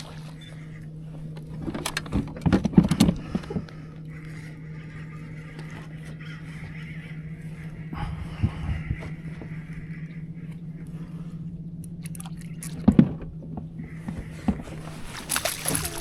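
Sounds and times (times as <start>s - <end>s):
boat motor hum: 0.0s - 16.0s
higher steady hum: 0.0s - 16.0s.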